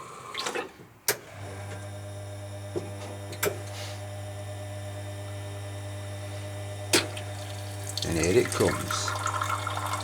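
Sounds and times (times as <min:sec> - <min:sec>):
espresso machine pump hum: 0:01.4 - 0:10.0.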